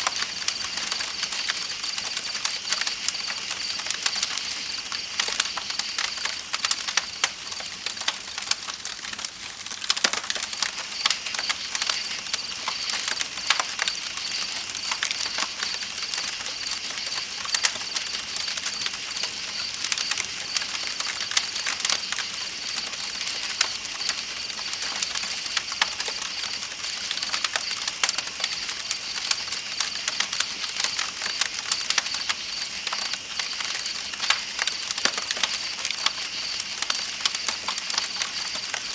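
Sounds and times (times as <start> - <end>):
campfire crackling and popping: 0.0 - 38.9
night insects trilling: 0.0 - 38.9.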